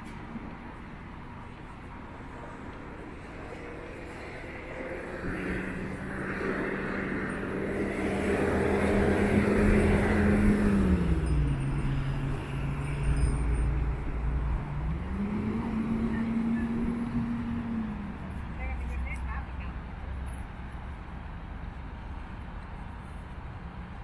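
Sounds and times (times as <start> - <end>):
engine humming with deep rumble: 0.0 - 24.0.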